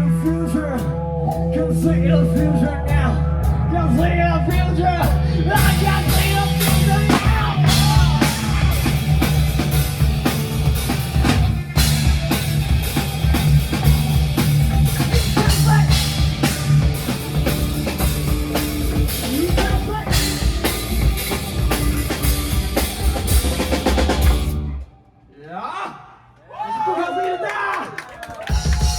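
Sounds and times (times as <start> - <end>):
bass guitar: 0.0 - 25.0
drum kit playing: 0.0 - 25.0, 28.5 - 28.9
electric guitar: 0.0 - 25.1.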